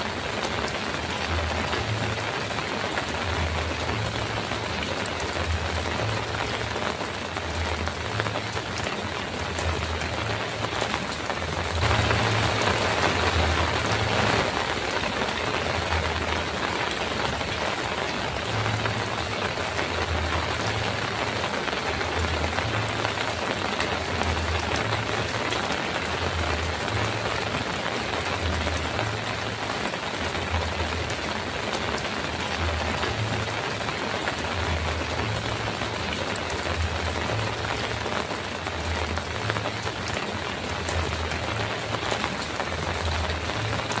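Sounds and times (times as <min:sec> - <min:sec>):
heavy rain on a metal roof: 0:00.0 - 0:44.0.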